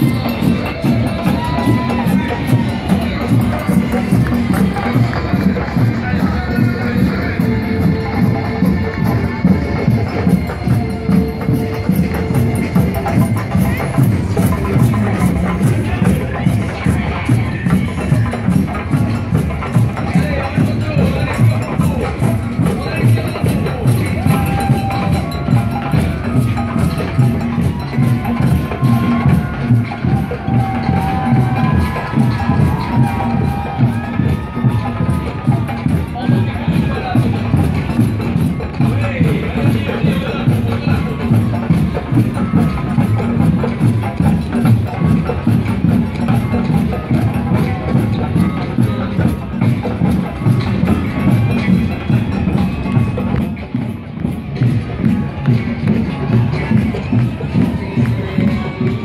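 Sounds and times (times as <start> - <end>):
marching drum band: 0.0 - 59.0.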